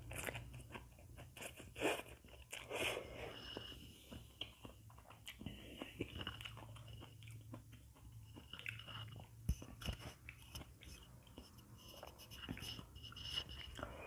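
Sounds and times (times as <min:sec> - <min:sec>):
chewing noodles: 0:00.0 - 0:14.0.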